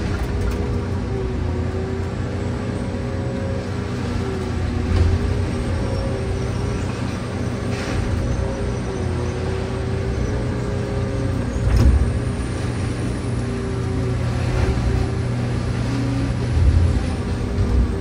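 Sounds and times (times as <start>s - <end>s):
diesel engine and hydraulics running: 0.0s - 18.0s.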